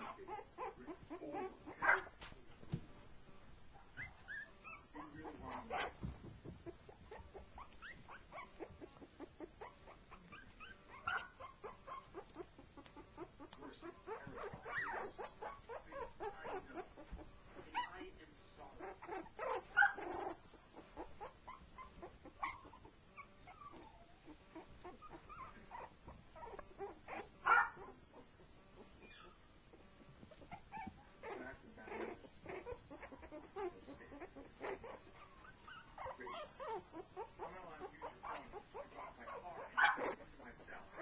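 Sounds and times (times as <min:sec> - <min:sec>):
puppies whimpering: 0:00.0 - 0:02.1, 0:03.8 - 0:41.0.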